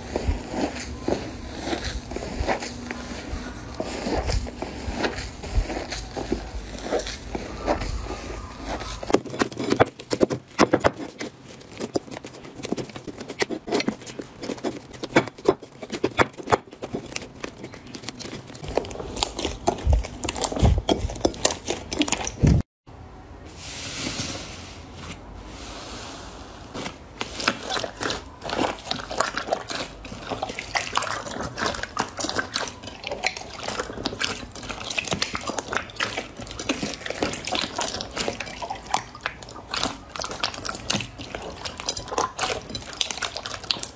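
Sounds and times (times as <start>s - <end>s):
hands squishing slime: 0.0s - 22.6s, 26.7s - 43.9s.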